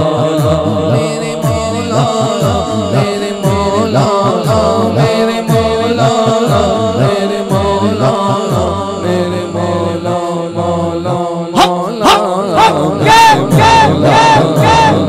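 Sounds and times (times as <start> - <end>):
man singing into a microphone: 0.0 - 15.0
men chanting low rhythmic backing: 0.0 - 15.0.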